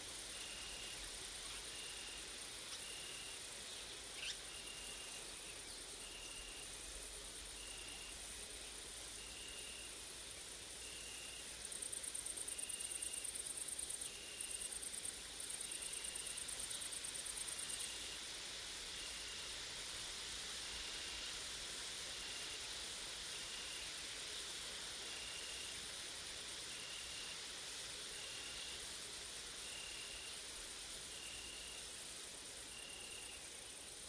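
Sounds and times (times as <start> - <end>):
high insect hiss: 0.0 - 34.0
grasshopper stridulating: 0.1 - 34.0.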